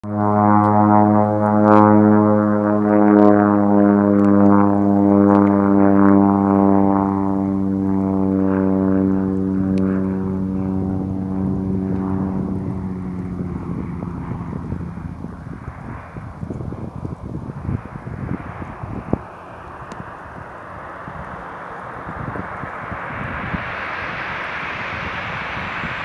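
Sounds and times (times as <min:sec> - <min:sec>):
propeller plane flying overhead: 0:00.0 - 0:26.0.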